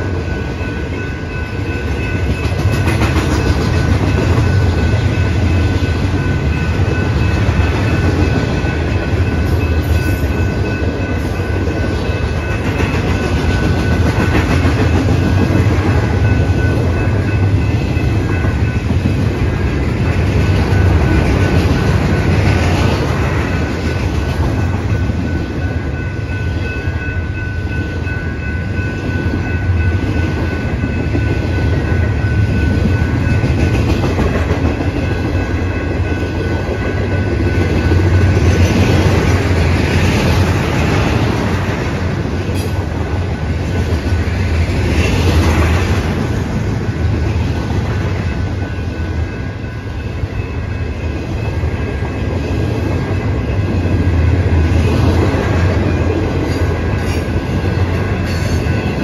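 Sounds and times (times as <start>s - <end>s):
crossing bell ringing: 0.0s - 59.0s
train wheels rumbling on rails: 0.0s - 59.0s.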